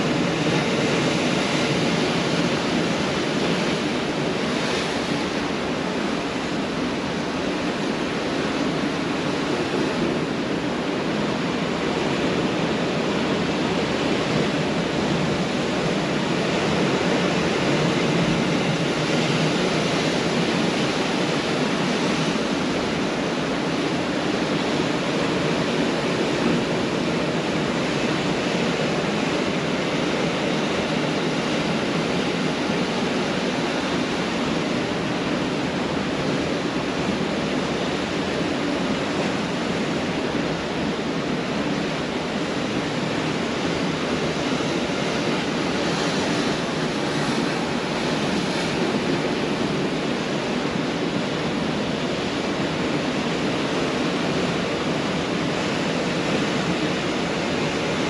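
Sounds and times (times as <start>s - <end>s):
surf waves on a beach: 0.0s - 58.0s.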